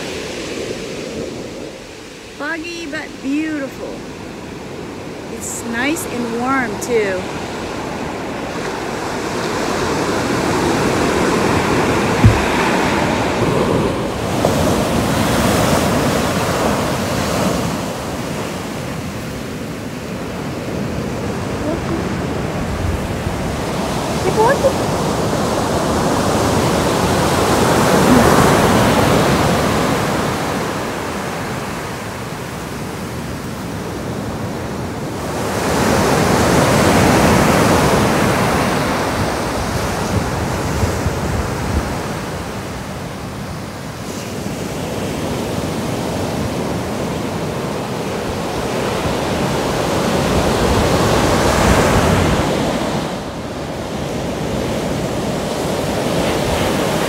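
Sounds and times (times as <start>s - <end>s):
ocean surf breaking on sand: 0.0s - 57.0s.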